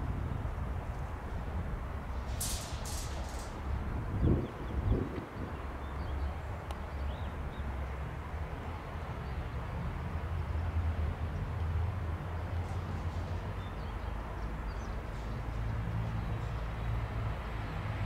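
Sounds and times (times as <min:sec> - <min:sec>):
distant train rumble: 0:00.0 - 0:18.0.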